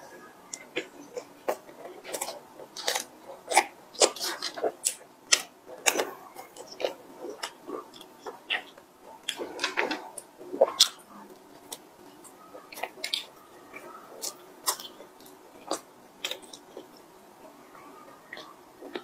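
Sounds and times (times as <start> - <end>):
chewing bread: 0.0 - 19.0.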